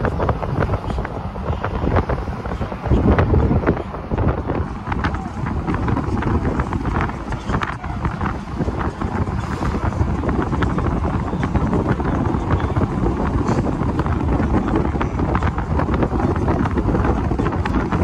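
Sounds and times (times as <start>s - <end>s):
car road noise: 0.0s - 18.0s
wind buffeting microphone: 0.0s - 18.0s.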